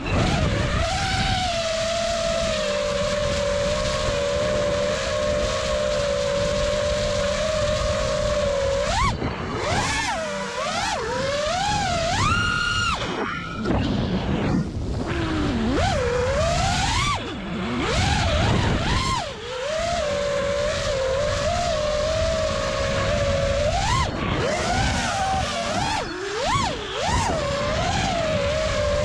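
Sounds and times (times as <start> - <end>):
quadcopter motors whining: 0.0 - 29.0
wind on microphone: 0.0 - 29.0.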